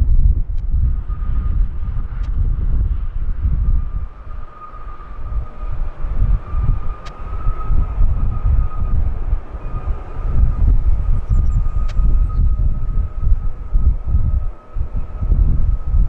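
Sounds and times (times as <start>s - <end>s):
jet engines rumbling and whining: 0.0s - 16.0s
wind on microphone: 0.0s - 16.0s.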